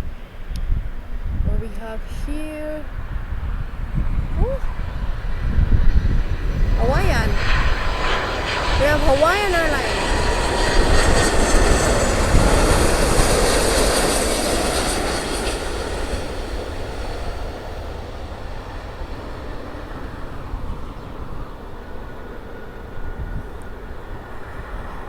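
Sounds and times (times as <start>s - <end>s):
jet airliner engines passing: 0.0s - 25.0s.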